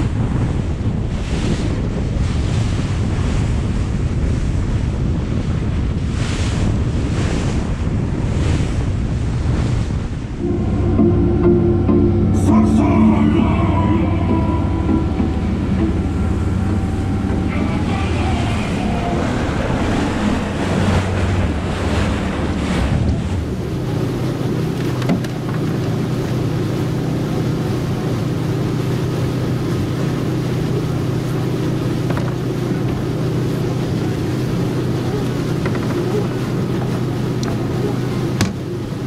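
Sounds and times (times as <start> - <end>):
water rushing along hull: 0.0 - 39.0
wind on microphone: 0.0 - 39.0
motorboat engine humming: 2.9 - 39.0.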